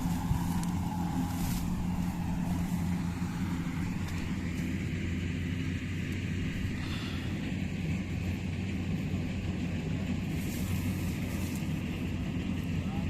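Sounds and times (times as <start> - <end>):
combine harvester diesel engine drone: 0.0 - 13.0.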